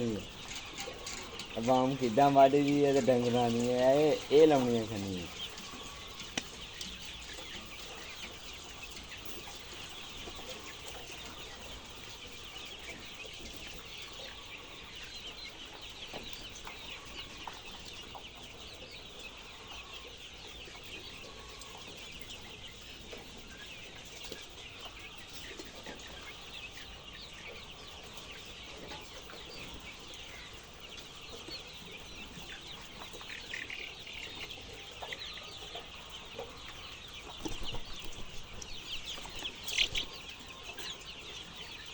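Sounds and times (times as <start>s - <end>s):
flock of chickens clucking: 0.0s - 41.9s.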